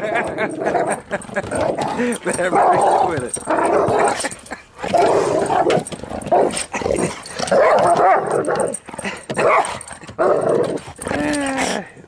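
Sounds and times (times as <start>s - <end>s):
dog barking and whining: 0.1s - 12.0s.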